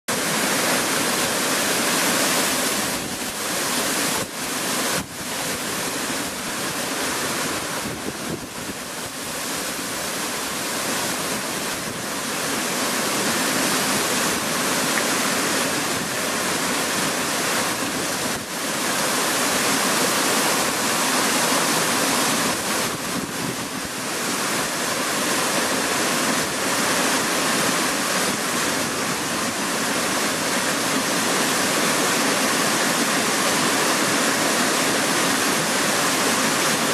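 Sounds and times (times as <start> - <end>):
water rushing: 0.1 - 36.9.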